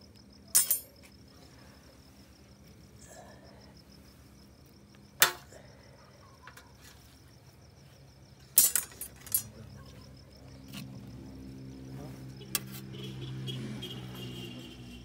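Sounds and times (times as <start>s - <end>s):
high insect chirp: 0.0s - 15.0s.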